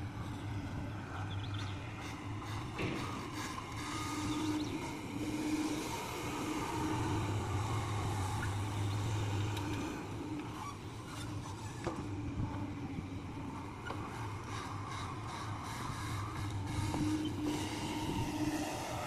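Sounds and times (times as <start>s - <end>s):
diesel engine running: 3.6s - 19.0s.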